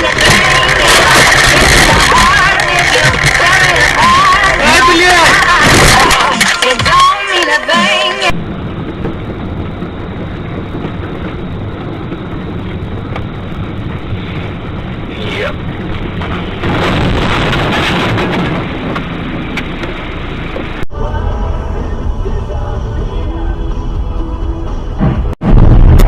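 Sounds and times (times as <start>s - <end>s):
car engine and road noise: 0.0s - 26.0s
rush of noise: 0.0s - 26.0s.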